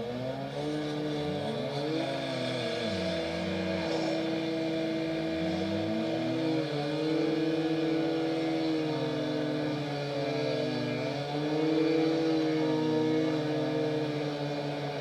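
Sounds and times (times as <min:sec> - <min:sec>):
construction machinery engines revving: 0:00.0 - 0:15.0.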